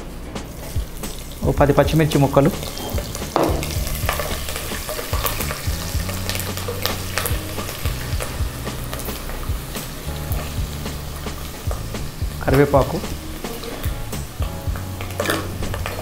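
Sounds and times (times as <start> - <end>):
seeds sizzling in hot oil: 0.5 - 16.0.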